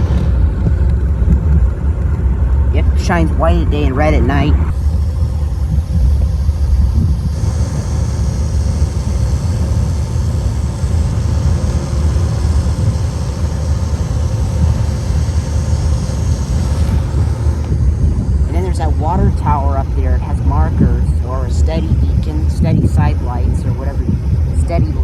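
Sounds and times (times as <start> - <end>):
vehicle low rumble: 0.0 - 25.0
faint high whine: 2.7 - 24.0.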